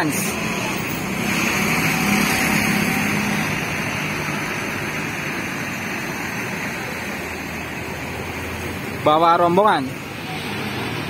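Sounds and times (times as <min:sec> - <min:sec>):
bus engine passing: 0:00.0 - 0:11.0
road traffic noise: 0:00.0 - 0:11.0.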